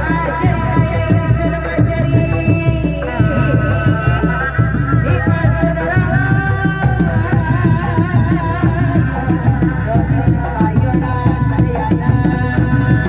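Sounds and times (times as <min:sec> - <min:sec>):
loud steady drumming: 0:00.0 - 0:13.0.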